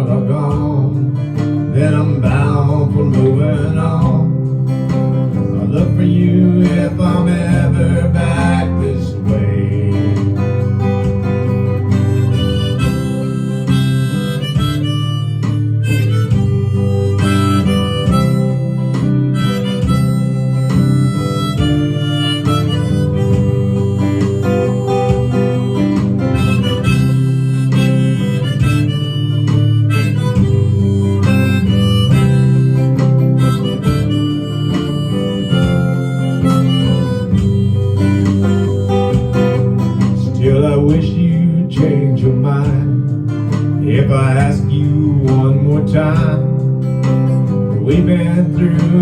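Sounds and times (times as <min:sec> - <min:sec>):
harmonica solo: 0:00.0 - 0:41.5
strummed acoustic guitar: 0:00.0 - 0:49.0.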